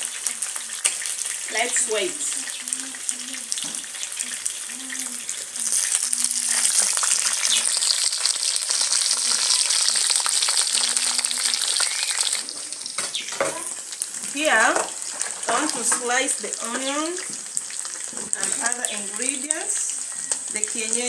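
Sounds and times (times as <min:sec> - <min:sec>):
chicken deep frying in hot oil: 0:00.0 - 0:21.0.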